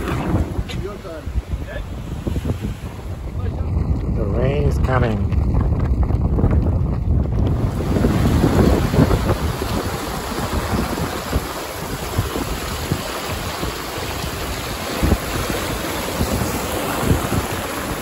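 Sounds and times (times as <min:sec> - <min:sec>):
water washing along hull: 0:00.0 - 0:18.0
wind buffeting microphone: 0:00.0 - 0:18.0.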